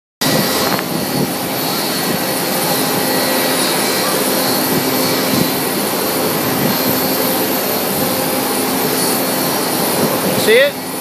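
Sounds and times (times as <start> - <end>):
jet engine rushing: 0.2 - 11.0.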